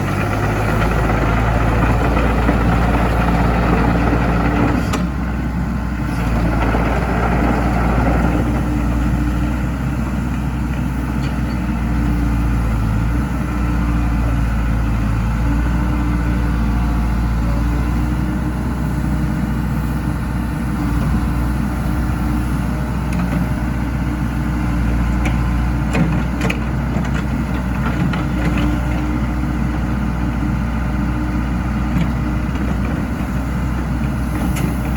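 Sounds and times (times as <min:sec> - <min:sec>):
excavator diesel engine idling: 0:00.0 - 0:34.9.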